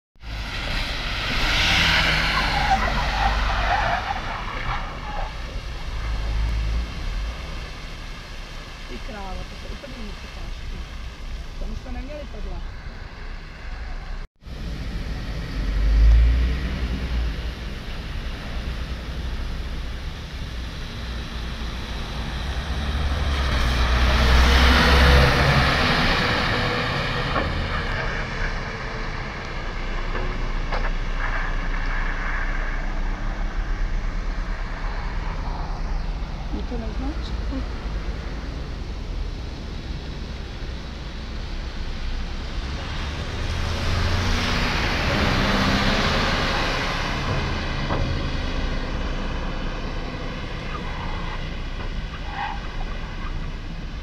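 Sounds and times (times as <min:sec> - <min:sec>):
water spray and wet tyres hiss: 0:00.2 - 0:54.0
bus engine low rumble: 0:04.1 - 0:54.0.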